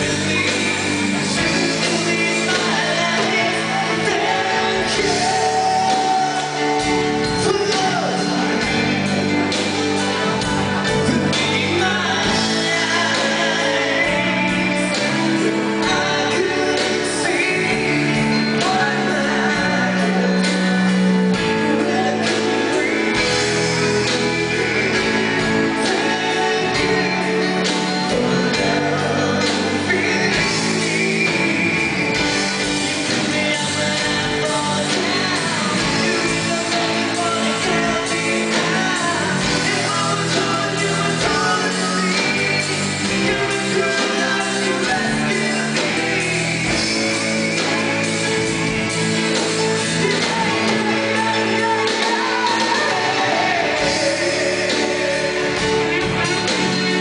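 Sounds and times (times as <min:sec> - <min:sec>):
live band playing: 0:00.0 - 0:57.0
woman singing lead: 0:00.0 - 0:57.0.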